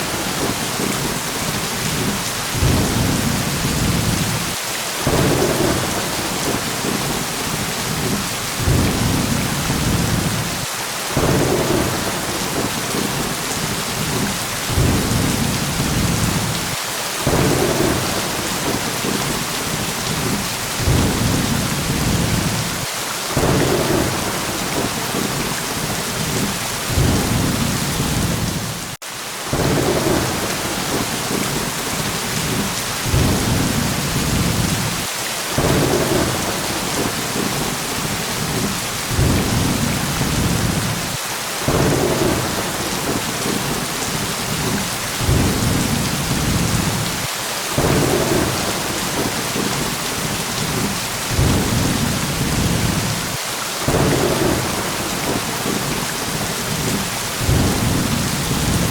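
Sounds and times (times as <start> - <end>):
heavy rain: 0.0 - 58.9
rolling thunder: 1.8 - 10.5, 11.2 - 22.7, 23.4 - 28.9, 29.5 - 49.8, 50.6 - 53.3, 53.9 - 58.9.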